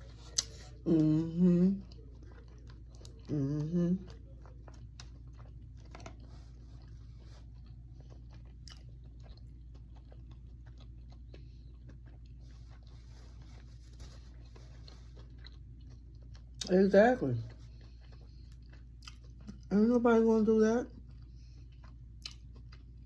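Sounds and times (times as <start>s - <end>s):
person chewing crunchy salad: 0.0s - 23.0s
steady low hum: 0.0s - 23.0s.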